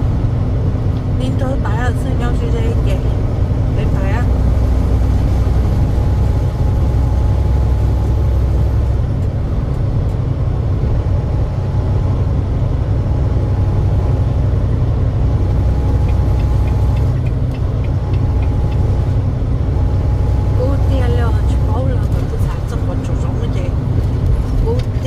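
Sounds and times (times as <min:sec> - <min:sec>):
truck engine rumble: 0:00.0 - 0:25.0.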